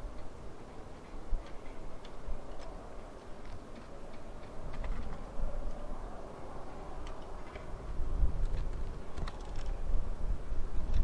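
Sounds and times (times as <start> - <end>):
outdoor background noise: 0.0 - 11.0
wind buffeting microphone: 0.0 - 11.0.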